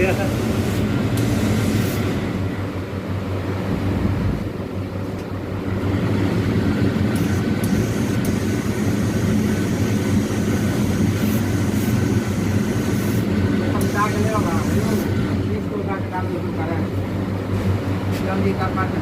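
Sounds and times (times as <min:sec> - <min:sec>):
steam boiler humming and hissing: 0:00.0 - 0:03.7, 0:04.5 - 0:19.0.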